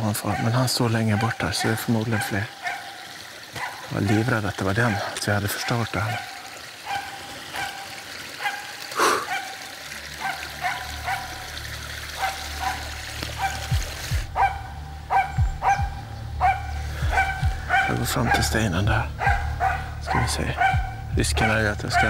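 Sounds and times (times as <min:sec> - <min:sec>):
dog barking: 0:00.2 - 0:11.5, 0:12.1 - 0:22.0.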